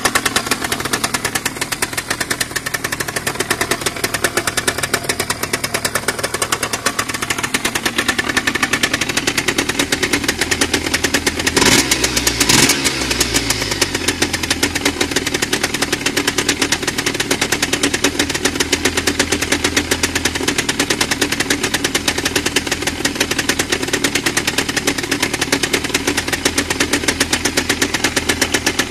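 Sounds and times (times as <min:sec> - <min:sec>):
two-stroke motorcycle idling: 0:00.0 - 0:28.9.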